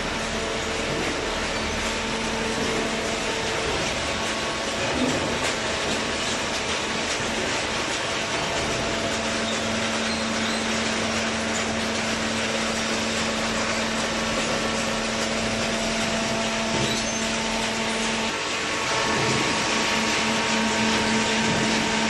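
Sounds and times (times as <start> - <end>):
baler motor and hydraulic pump: 0.0 - 22.0.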